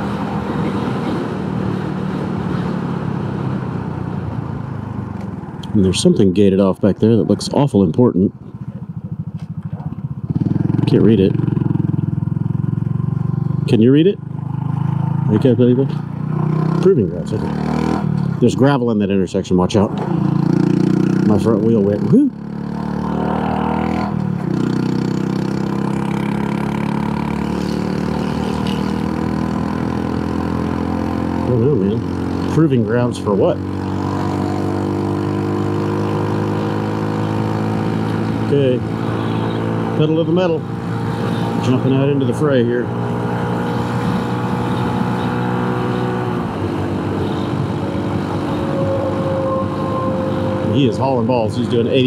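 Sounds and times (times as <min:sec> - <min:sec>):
motorcycle engine running: 0:07.1 - 0:18.4, 0:20.0 - 0:52.0.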